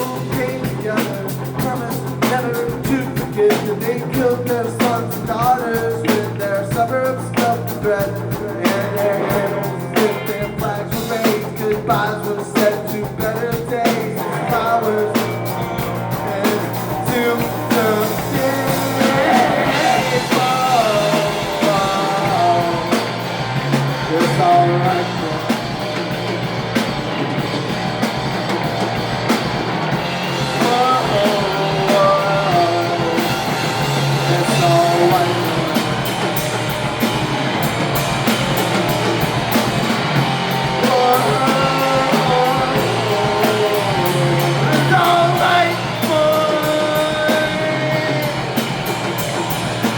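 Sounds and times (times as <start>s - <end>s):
pitch-bending guitar melody: 0.0s - 49.9s
surf punk rock band playing: 0.0s - 49.9s.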